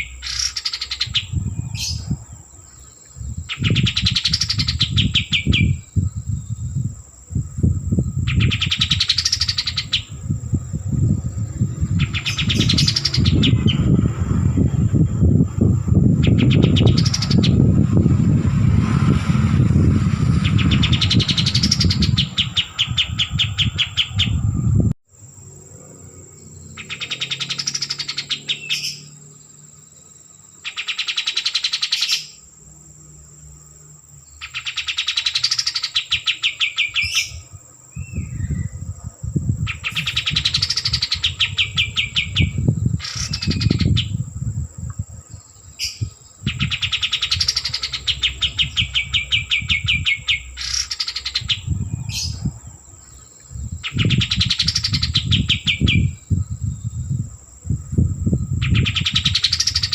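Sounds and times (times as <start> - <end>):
songbird rattling trills: 0.0 - 32.6, 34.2 - 59.9
low rumbling noise: 0.9 - 28.5, 37.3 - 50.6, 51.2 - 59.9.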